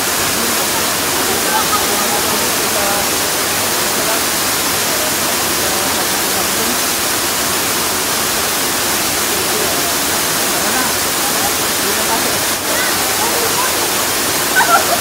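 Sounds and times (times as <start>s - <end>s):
faint voices of people: 0.0s - 15.0s
waterfall rushing: 0.0s - 15.0s.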